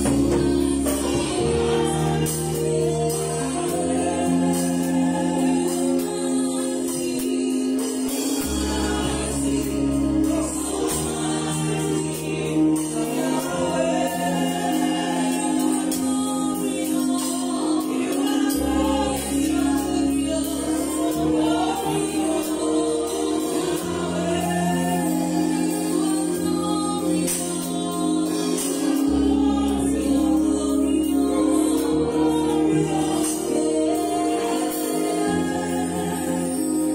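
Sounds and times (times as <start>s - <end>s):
bass: 0.0s - 36.9s
drum kit: 0.0s - 36.9s
electronic keyboard chords: 0.0s - 36.9s
woman singing: 0.0s - 36.9s.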